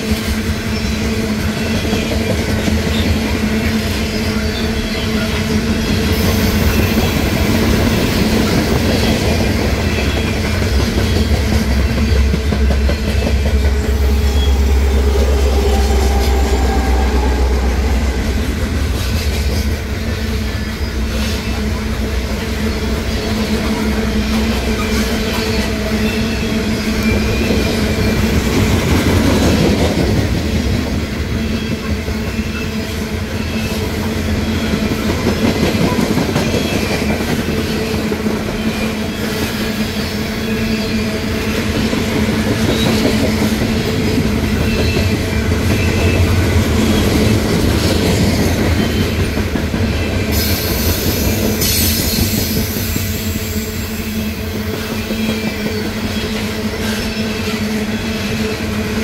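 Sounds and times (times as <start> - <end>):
diesel locomotive engine rumble: 0.0 - 59.0
train wheels clattering on rails: 0.0 - 59.0.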